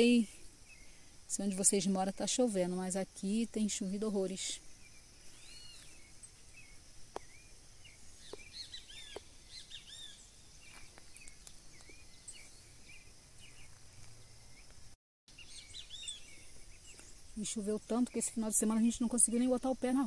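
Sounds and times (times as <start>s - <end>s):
birds chirping: 0.0s - 20.0s
faint outdoor background: 0.0s - 20.0s.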